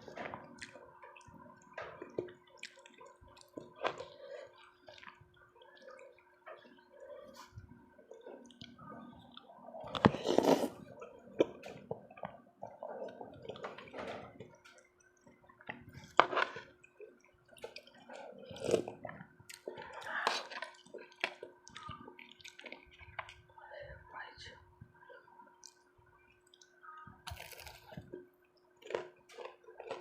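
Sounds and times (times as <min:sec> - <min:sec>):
wet chewing and slurping: 0:00.0 - 0:23.5, 0:25.6 - 0:30.0
faint steady hum: 0:00.0 - 0:30.0.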